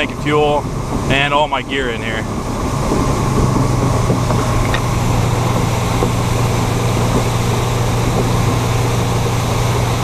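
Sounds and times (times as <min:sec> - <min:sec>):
outboard motor running: 0:00.0 - 0:10.0
rush of wind and water: 0:00.0 - 0:10.0.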